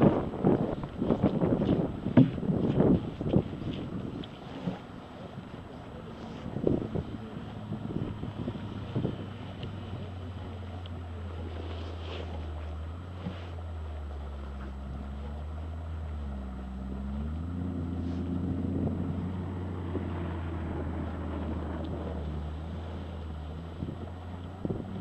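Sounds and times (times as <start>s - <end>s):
engine idling: 0.1s - 25.0s.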